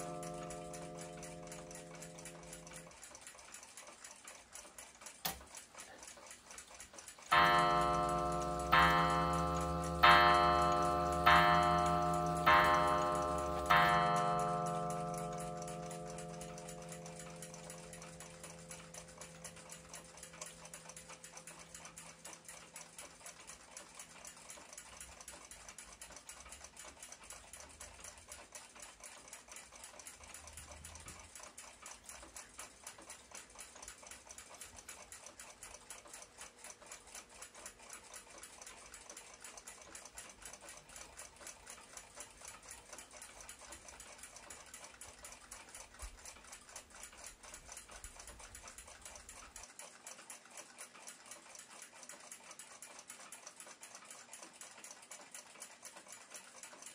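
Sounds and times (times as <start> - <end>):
pendulum clock ticking: 0.0 - 56.9.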